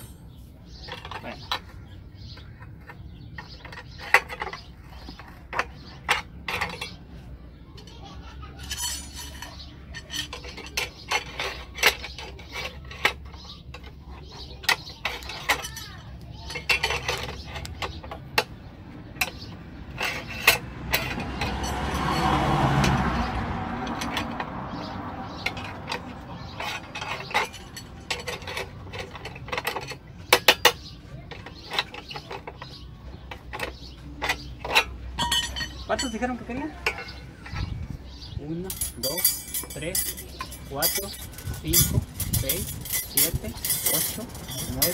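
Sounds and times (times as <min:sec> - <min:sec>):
metallic clicks and clanks: 0:00.0 - 0:44.9.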